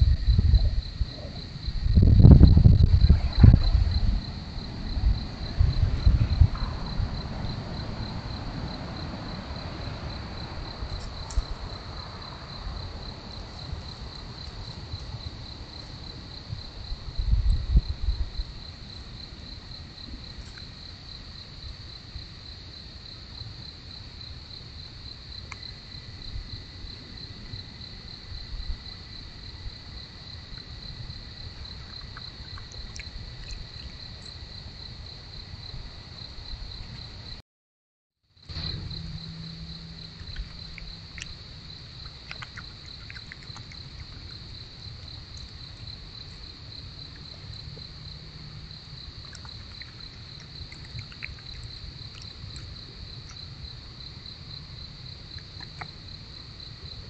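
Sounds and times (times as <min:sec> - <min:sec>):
crickets chirping: 0:00.0 - 0:37.4, 0:38.3 - 0:57.0
faint cricket trill: 0:00.0 - 0:37.4, 0:38.3 - 0:57.0.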